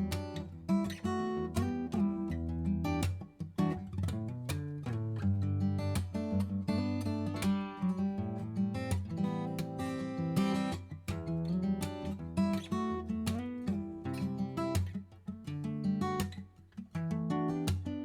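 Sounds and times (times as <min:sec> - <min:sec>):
acoustic guitar music with bass: 0:00.0 - 0:18.0.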